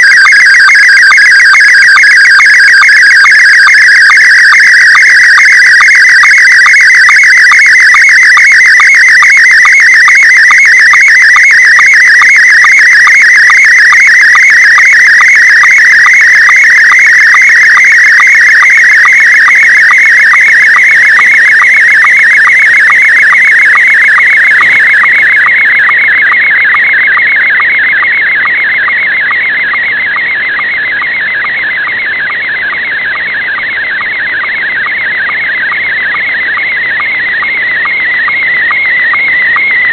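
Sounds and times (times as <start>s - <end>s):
warbling radio signal tone: 0.0s - 39.9s.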